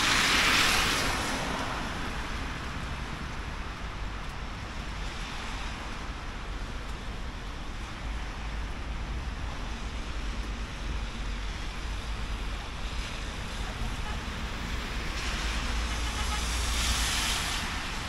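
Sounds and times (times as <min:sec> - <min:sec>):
rain hiss: 0:00.0 - 0:18.0
traffic: 0:00.0 - 0:18.0
tyres hissing on wet road: 0:00.0 - 0:18.0.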